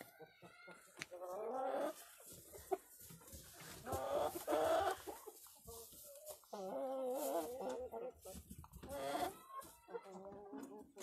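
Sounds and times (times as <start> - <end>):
chickens calling: 0.0 - 11.0.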